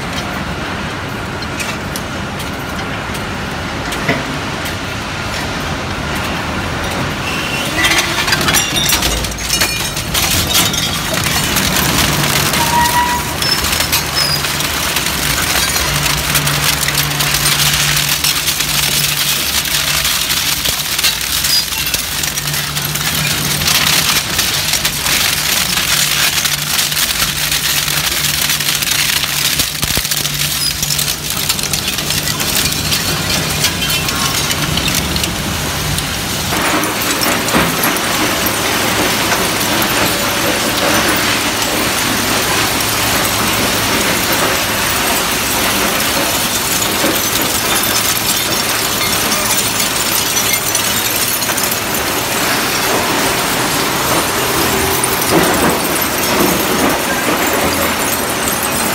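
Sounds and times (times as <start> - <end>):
metal shredder crunching scrap: 6.3 - 58.9.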